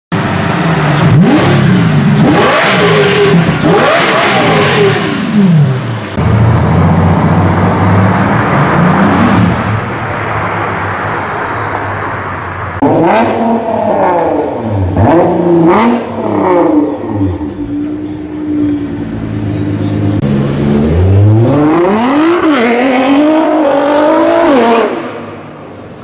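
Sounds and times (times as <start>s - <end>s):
sports car engine revving: 0.2s - 9.8s, 12.8s - 25.4s
car sharp revving: 0.2s - 10.0s, 12.8s - 25.6s.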